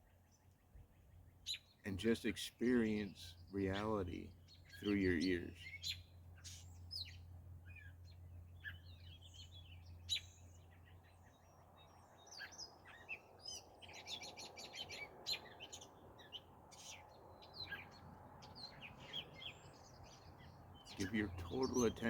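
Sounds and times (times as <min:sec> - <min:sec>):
wild birds chirping and singing: 0:00.0 - 0:22.0.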